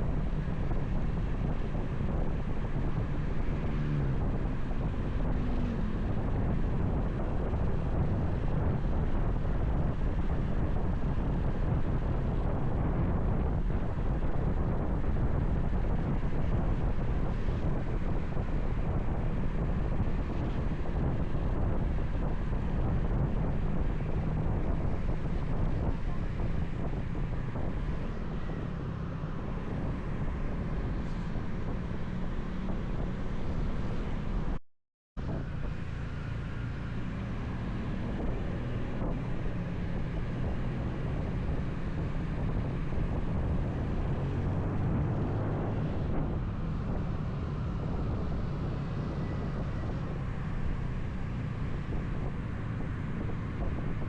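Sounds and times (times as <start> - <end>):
wind rumbling on microphone: 0.0 - 34.6, 35.2 - 54.0.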